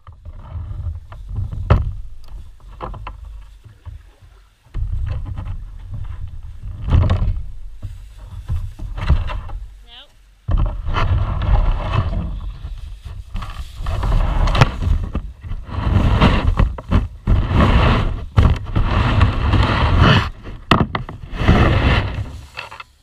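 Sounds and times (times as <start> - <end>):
handling rustle: 0.0 - 23.0.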